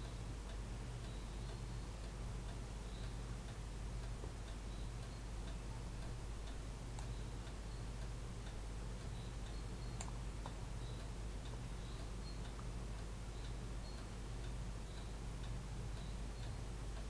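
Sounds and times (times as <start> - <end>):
faint high-pitched ticks: 0.0 - 17.0
low hum and hiss: 0.0 - 17.0.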